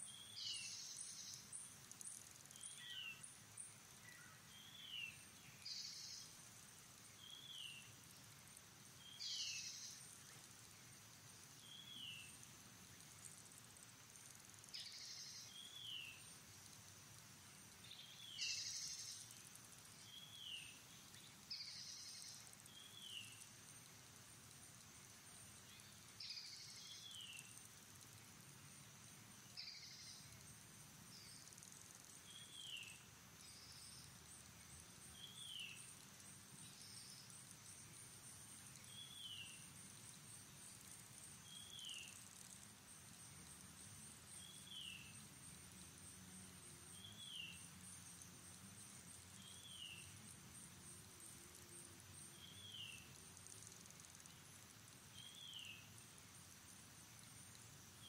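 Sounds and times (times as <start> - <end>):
high insect hum: 0.0 - 58.0.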